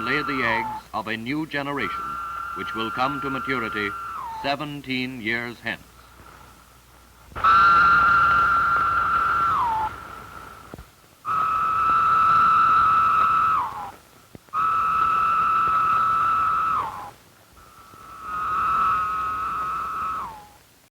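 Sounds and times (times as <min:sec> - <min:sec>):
cicadas singing: 0:00.0 - 0:05.8, 0:07.4 - 0:10.7, 0:11.3 - 0:14.0, 0:14.6 - 0:20.6.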